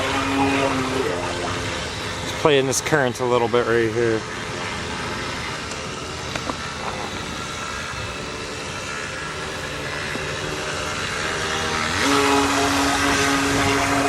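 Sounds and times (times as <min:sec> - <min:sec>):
rc boat motor whining: 0:00.0 - 0:14.0
steady hiss: 0:00.0 - 0:14.0.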